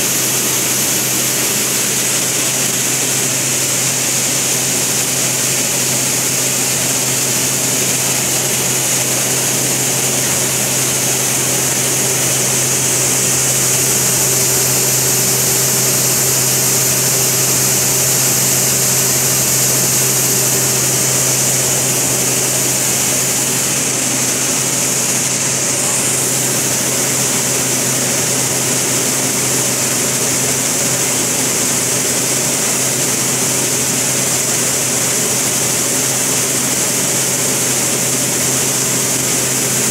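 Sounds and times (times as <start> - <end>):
machine fans humming and rushing: 0.0 - 39.9.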